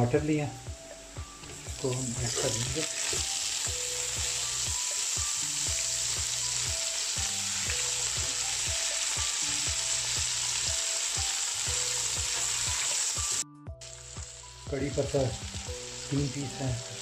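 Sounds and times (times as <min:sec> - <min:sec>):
vegetables sizzling in hot oil: 0:01.4 - 0:17.0.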